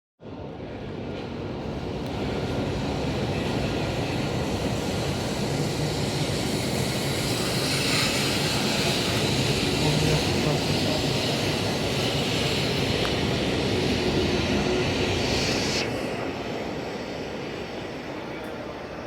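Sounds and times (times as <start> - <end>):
train rushing past platform: 0.2 - 19.0.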